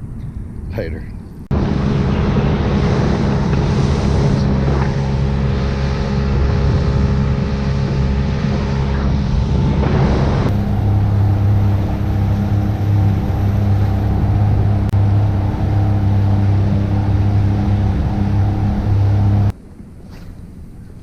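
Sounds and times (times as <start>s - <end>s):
wind noise: 0.0s - 21.0s
water noise: 1.4s - 21.0s
outboard motor running: 1.5s - 19.5s.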